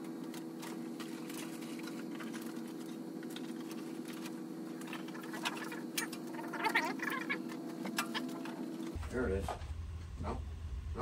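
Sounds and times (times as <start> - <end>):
parts and papers being handled: 0.0 - 9.0
background hum: 0.0 - 11.0.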